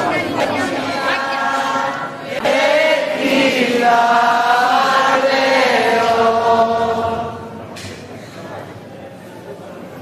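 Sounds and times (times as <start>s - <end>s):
voices singing a slow hymn: 0.0s - 8.2s.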